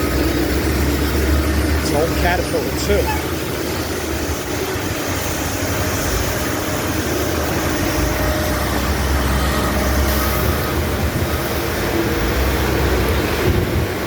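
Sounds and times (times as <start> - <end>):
asphalt milling machine running: 0.0 - 14.0.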